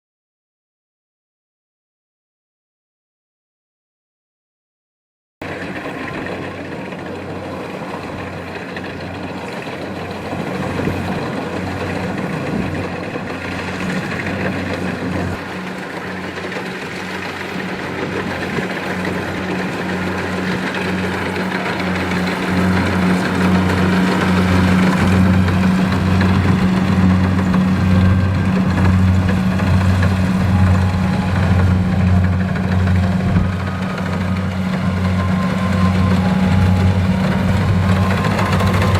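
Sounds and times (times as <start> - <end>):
combine harvester engine droning: 5.4 - 38.9
machine clatter: 5.4 - 38.9.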